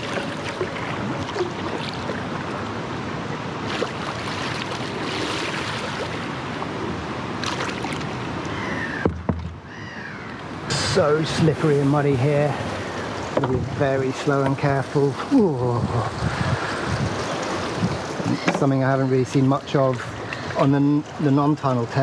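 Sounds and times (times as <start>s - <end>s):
paddle splashes: 0.0s - 9.6s, 10.9s - 22.0s
water lapping around kayak hull: 0.0s - 22.0s.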